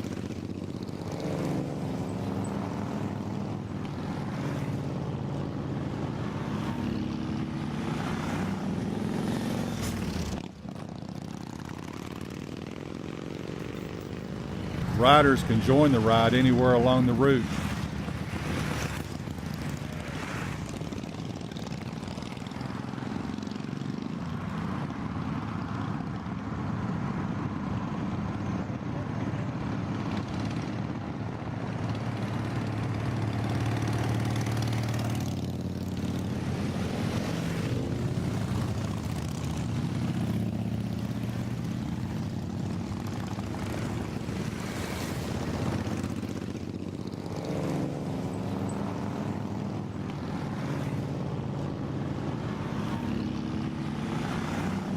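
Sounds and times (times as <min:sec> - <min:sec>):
motorcycle and vehicle engines: 0:00.0 - 0:54.9
road and wind noise: 0:00.0 - 0:54.9.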